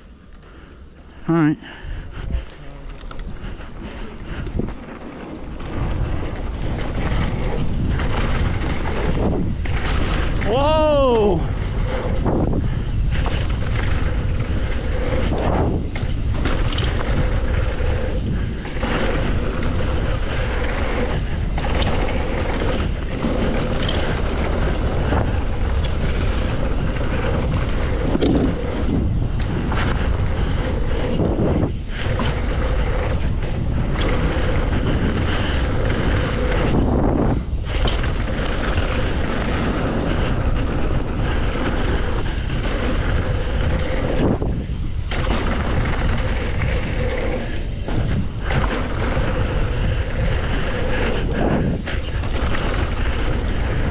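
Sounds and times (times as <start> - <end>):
bike tyres on dirt: 0.0 - 53.9
wind rushing over microphone: 0.0 - 53.9.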